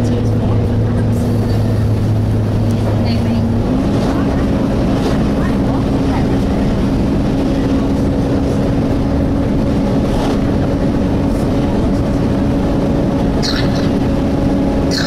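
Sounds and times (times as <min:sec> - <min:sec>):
engine and road rumble: 0:00.0 - 0:15.0
engine cooling fan wailing: 0:00.0 - 0:15.0.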